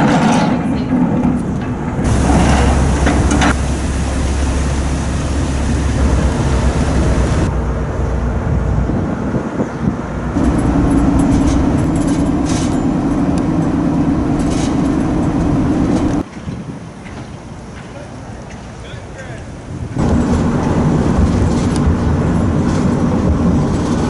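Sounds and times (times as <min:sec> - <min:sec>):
ferry engine rumble: 0:00.0 - 0:24.0
rushing wind and water: 0:01.8 - 0:17.8, 0:19.5 - 0:24.0.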